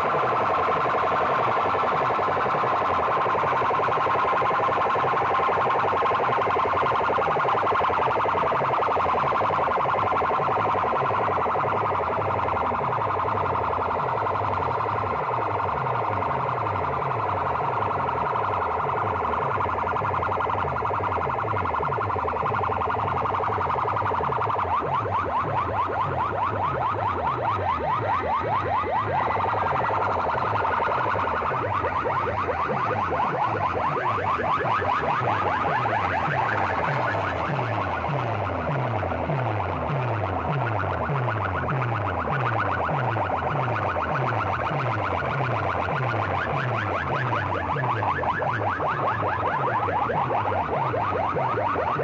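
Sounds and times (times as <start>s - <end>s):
loudspeaker siren tone: 0.0s - 52.0s.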